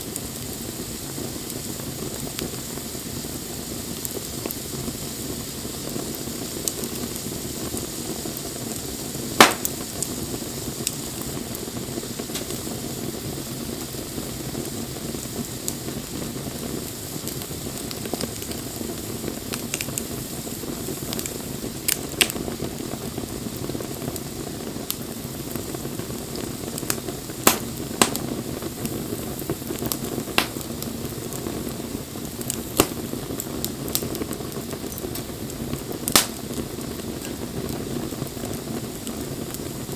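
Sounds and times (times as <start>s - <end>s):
campfire flames hissing: 0.0s - 39.9s
fire crackles and pops: 0.0s - 39.9s.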